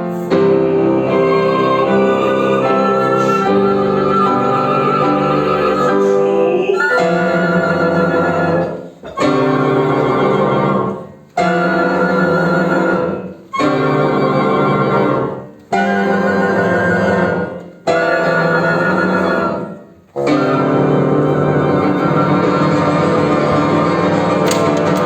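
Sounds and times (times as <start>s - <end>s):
flute oboe bassoon and piano chords: 0.0s - 25.0s.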